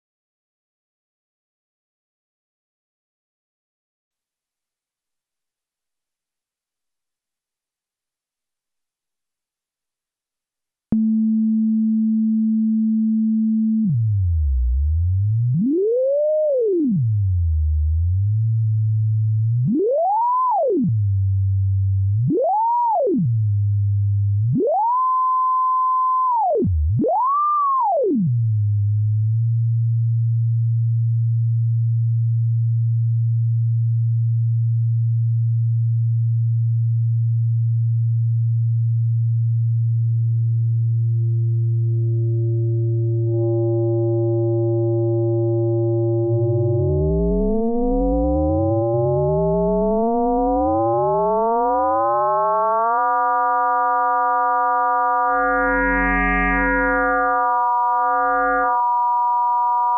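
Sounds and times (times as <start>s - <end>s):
sine wave electronic tone: 4.2s - 59.9s.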